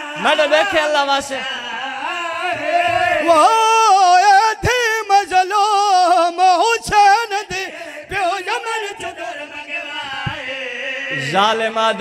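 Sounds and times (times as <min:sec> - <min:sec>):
man singing a lament: 0:00.0 - 0:12.0.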